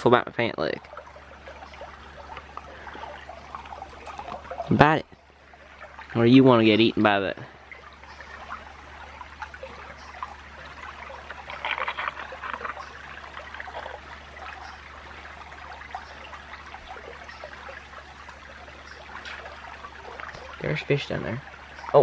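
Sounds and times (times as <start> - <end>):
creek water trickling: 0.0 - 22.0
water sloshing and splashing: 0.0 - 22.0.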